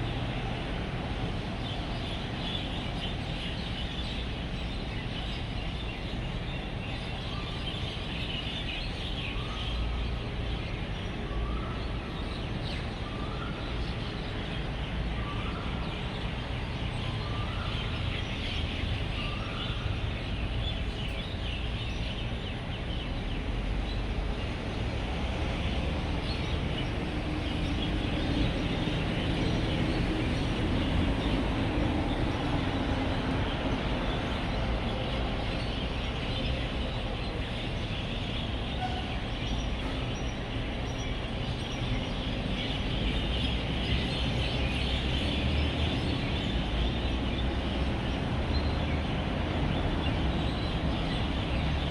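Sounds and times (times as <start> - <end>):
road traffic rumble: 0.0 - 51.9.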